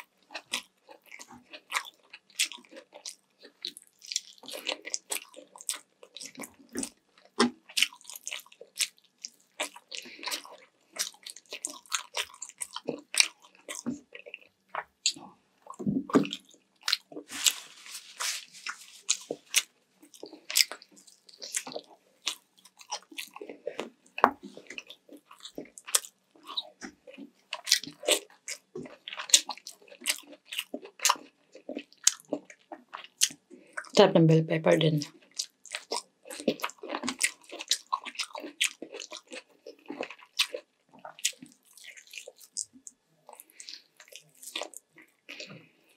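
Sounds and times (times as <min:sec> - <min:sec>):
wet chewing and lip-smacking: 0:00.0 - 0:34.0, 0:35.0 - 0:45.9.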